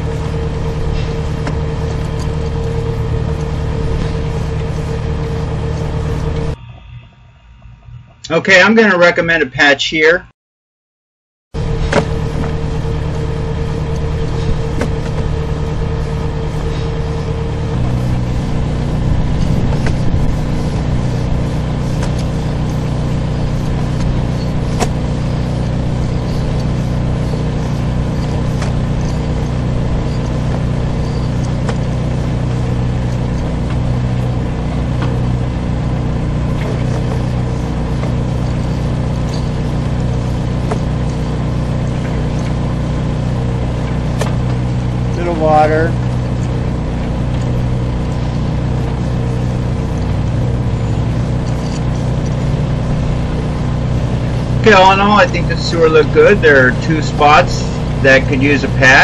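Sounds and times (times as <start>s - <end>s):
engine and pump droning: 0.0s - 9.9s, 11.5s - 59.0s.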